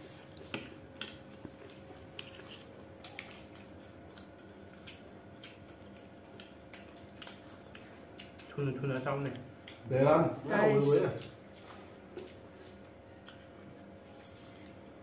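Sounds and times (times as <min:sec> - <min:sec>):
faint steady hum: 0:00.0 - 0:15.0
chewing smacks: 0:00.2 - 0:09.9, 0:11.2 - 0:15.0.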